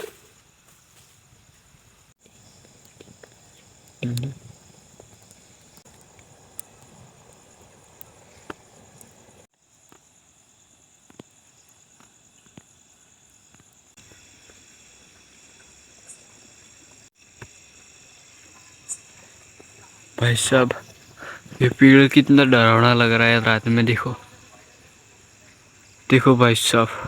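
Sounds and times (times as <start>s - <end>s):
wood fire crackling: 0.0s - 9.9s, 13.3s - 27.0s
crickets chirring: 0.0s - 27.0s.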